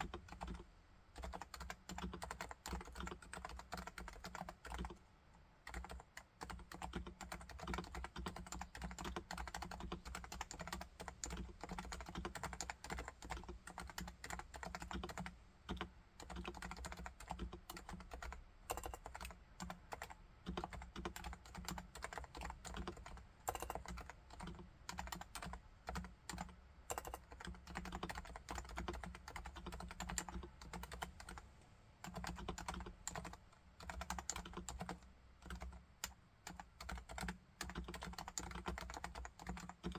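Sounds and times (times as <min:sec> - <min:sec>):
fast typing on keyboard: 0:00.0 - 0:00.6, 0:01.2 - 0:05.0, 0:05.6 - 0:31.4, 0:32.0 - 0:39.9.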